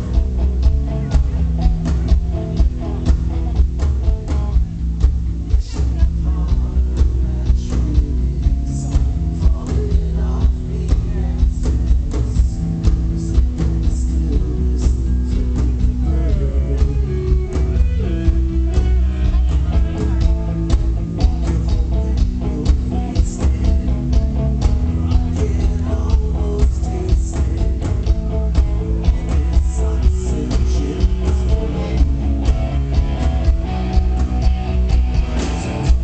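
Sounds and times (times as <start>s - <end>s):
bass guitar: 0.0s - 36.0s
electric guitar: 0.0s - 36.0s
steady drum beat: 0.0s - 36.0s.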